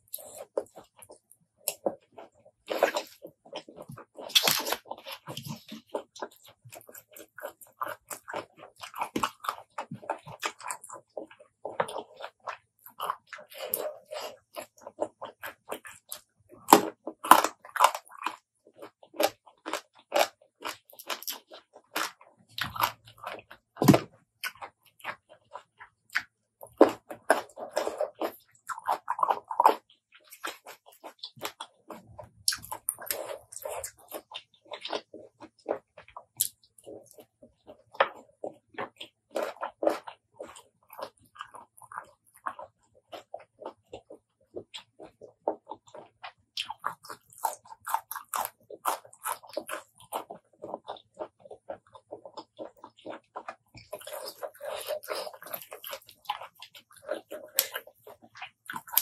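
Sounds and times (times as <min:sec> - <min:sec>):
crunchy bites and chewing: 0:00.0 - 0:59.0.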